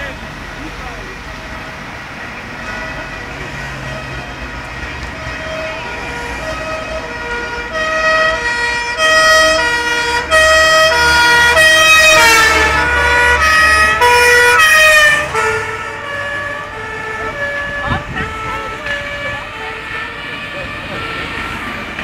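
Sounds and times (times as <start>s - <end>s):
truck engine rumble: 0.0s - 22.0s
two-tone fire sirens: 1.0s - 22.0s.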